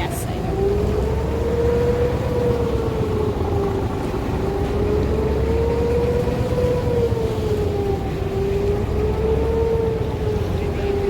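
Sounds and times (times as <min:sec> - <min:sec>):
motor boat engine droning: 0:00.0 - 0:11.0.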